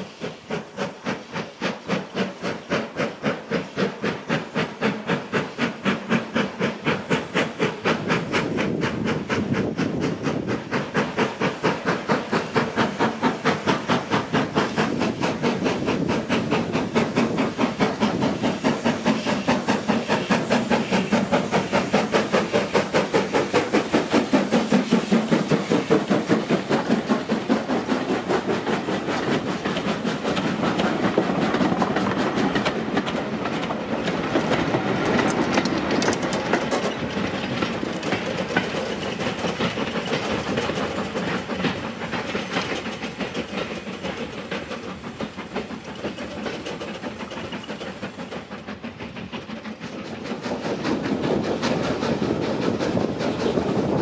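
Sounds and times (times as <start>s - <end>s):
steam locomotive chuffing: 0.0s - 54.0s
train rail noise: 0.0s - 54.0s.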